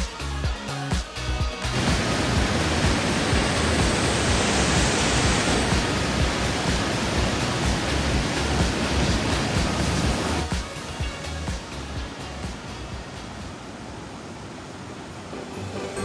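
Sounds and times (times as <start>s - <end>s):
steady rushing noise: 1.6s - 16.0s.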